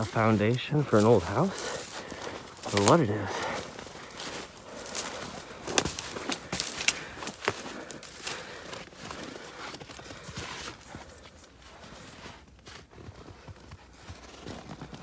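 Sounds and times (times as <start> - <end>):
footsteps crunching through snow: 0.0 - 15.0.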